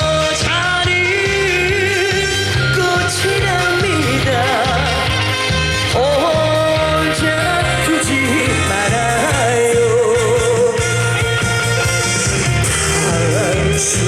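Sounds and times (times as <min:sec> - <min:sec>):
steady bass beat: 0:00.0 - 0:14.0
upbeat trot song: 0:00.0 - 0:14.0.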